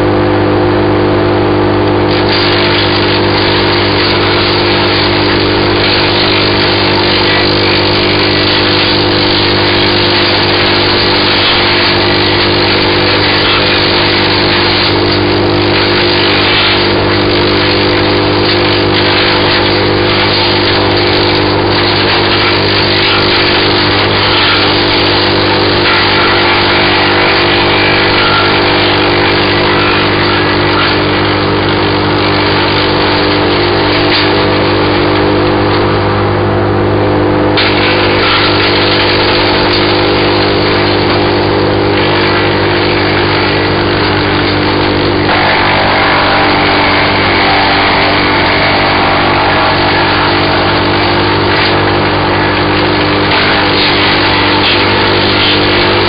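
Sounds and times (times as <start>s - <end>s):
wood chipper engine droning: 0.0s - 56.0s
branches being chipped crackle: 2.2s - 36.0s, 37.6s - 55.9s.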